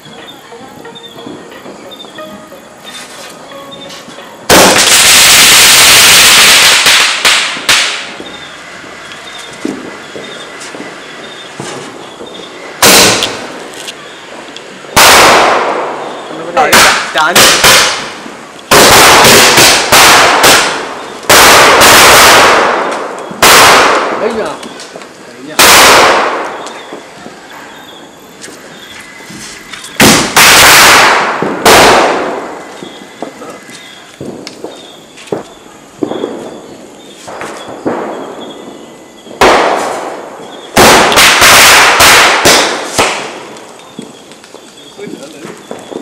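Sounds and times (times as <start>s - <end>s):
fireworks exploding: 0.0s - 46.0s.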